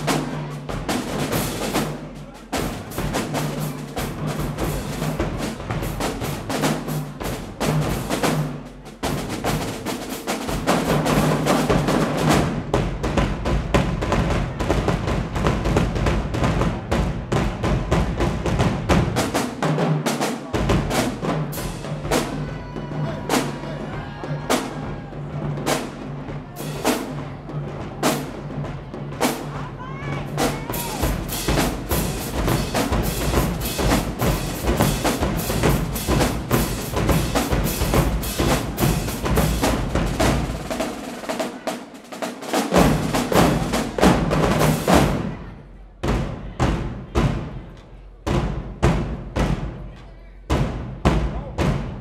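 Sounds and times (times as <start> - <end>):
drumline playing a cadence: 0.0 - 52.0.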